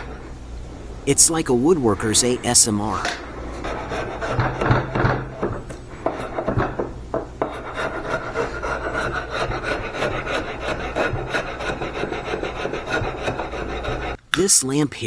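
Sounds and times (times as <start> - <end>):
tool rasping bark off wood: 0.0 - 14.2.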